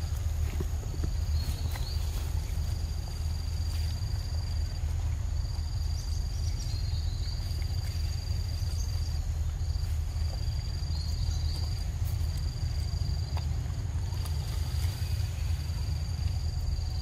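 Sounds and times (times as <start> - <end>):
constant low rumble: 0.0 - 17.0
insects trilling: 0.0 - 17.0.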